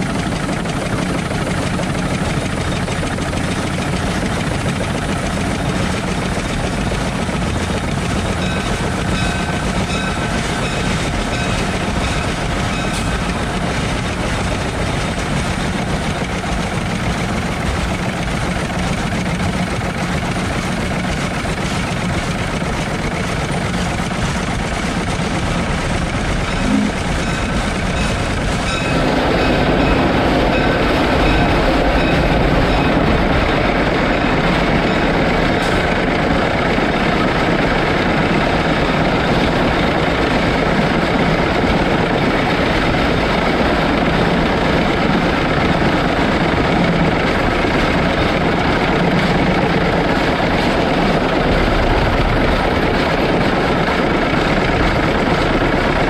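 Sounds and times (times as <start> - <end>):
steam locomotive mechanical clatter: 0.0 - 56.0.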